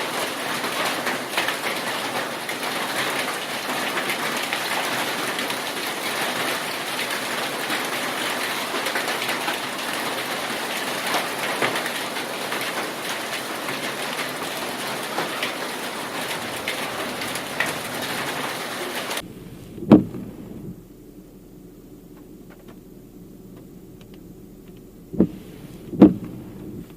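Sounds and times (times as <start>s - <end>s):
heavy rain on hard surface: 0.0s - 26.9s.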